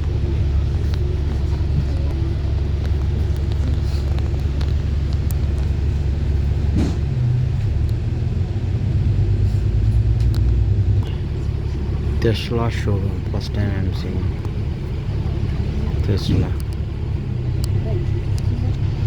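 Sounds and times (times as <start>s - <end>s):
road vehicle rumble: 0.0s - 19.0s.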